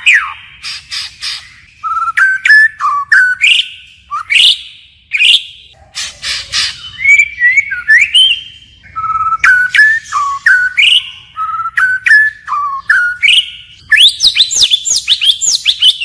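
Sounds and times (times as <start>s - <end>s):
bird singing whistled phrases: 0.0s - 16.0s.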